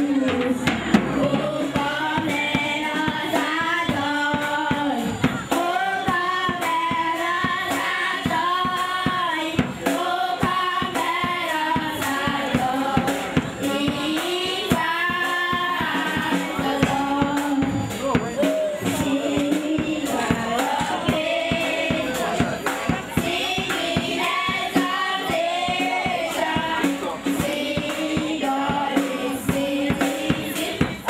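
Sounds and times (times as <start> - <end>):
children and women singing: 0.0 - 31.0
steady percussive beat: 0.0 - 31.0.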